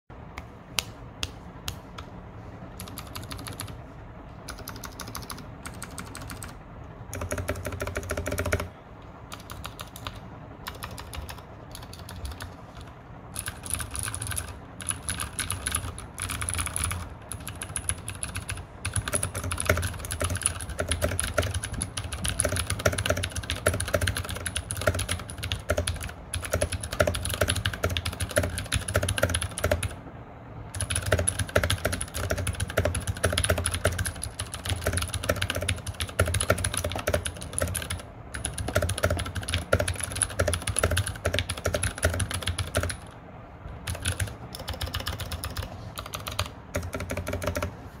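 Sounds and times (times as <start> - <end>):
mechanical keyboard typing: 2.7 - 3.8, 4.4 - 30.0, 30.8 - 47.8.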